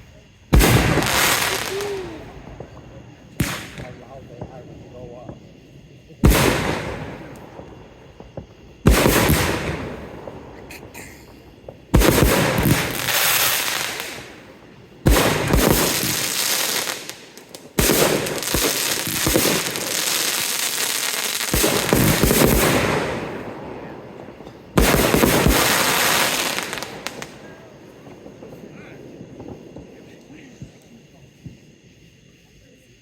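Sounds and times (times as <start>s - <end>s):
fireworks hiss and crackle: 0.0s - 33.0s
fireworks bangs: 0.2s - 31.9s.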